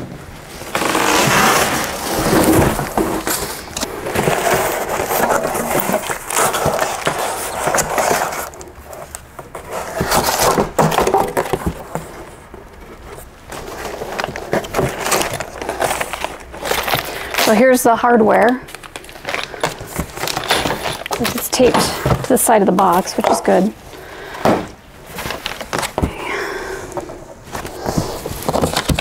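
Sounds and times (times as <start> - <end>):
cardboard scraping rustling and knocking: 0.0 - 17.4, 19.3 - 23.8, 24.4 - 26.3, 27.0 - 29.0.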